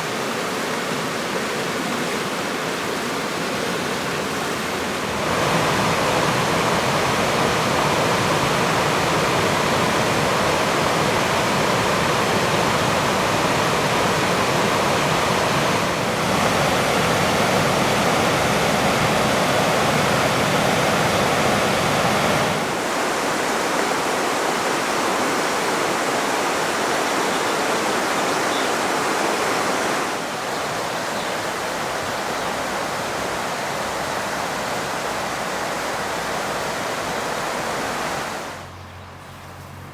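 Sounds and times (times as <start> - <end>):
fast-flowing water rushing: 0.0 - 38.8.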